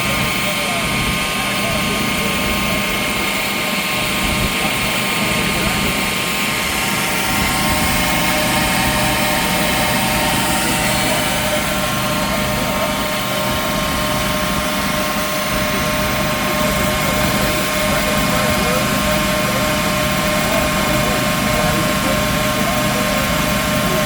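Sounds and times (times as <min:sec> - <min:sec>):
forge rushing noise: 0:00.0 - 0:24.0
steady whining tones: 0:00.0 - 0:24.0.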